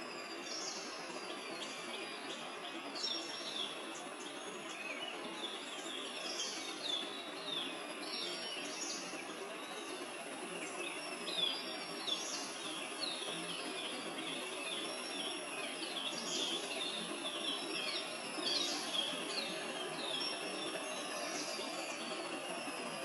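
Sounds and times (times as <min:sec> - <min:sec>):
outdoor ambience hiss: 0:00.0 - 0:23.0
small birds chirping: 0:00.2 - 0:23.0.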